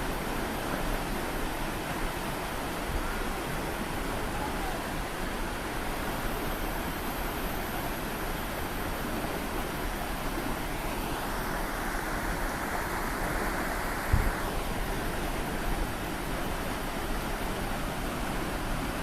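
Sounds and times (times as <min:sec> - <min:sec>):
fast-flowing white water rushing: 0:00.0 - 0:19.0.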